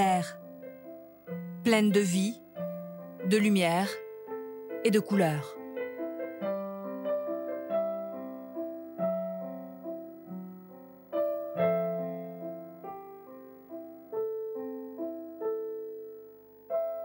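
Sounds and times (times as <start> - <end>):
solo piano slow melody: 0.0 - 17.0.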